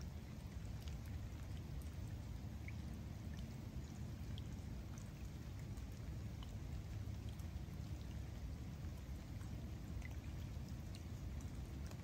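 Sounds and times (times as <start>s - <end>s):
rain falling on a lake: 0.0s - 12.0s.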